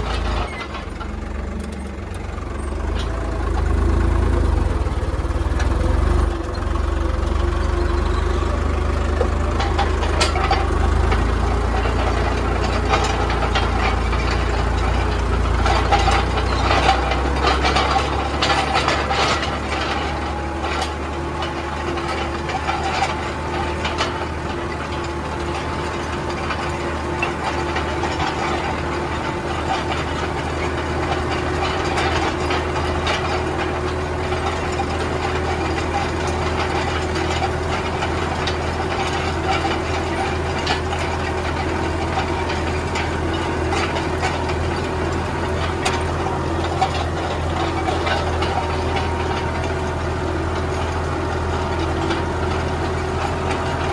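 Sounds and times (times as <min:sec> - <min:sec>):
rattles and knocks: 0:00.0 - 0:53.9
tractor diesel engine running: 0:00.0 - 0:53.9.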